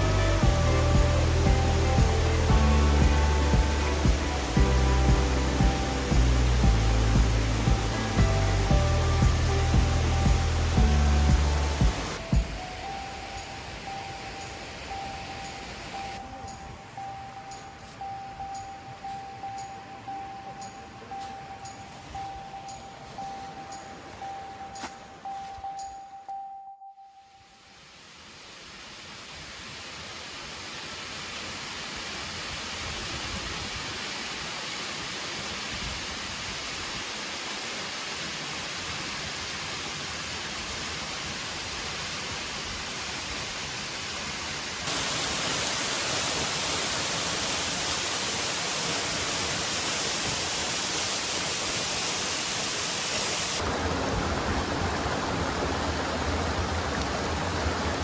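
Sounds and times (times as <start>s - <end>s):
waterfall rushing: 0.0s - 25.7s, 28.2s - 58.0s.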